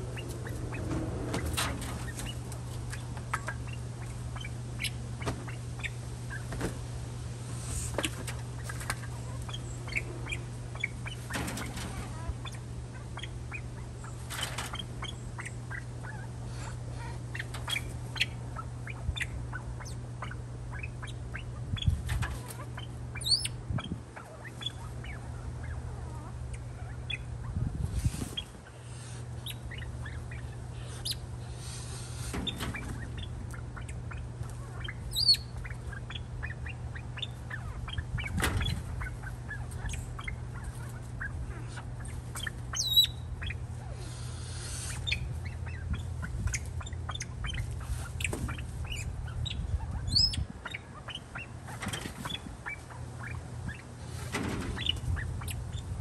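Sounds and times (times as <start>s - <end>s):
birds chirping and calling: 0.0s - 56.0s
steady low hum: 0.0s - 56.0s.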